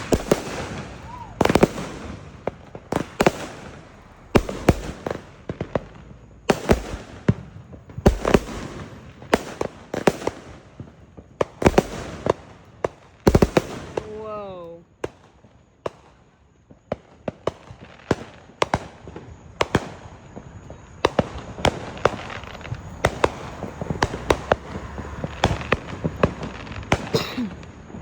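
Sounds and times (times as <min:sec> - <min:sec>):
fireworks bangs and pops: 0:00.0 - 0:28.0.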